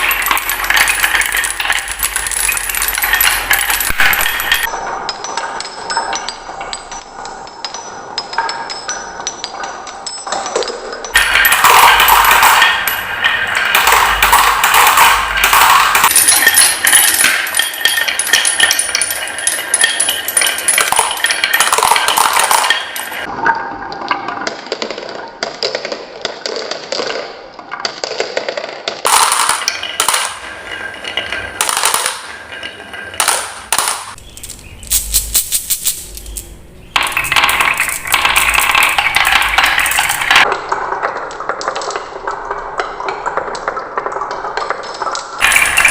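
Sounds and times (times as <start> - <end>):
marbles rolling on wooden tracks: 0.0 - 45.9.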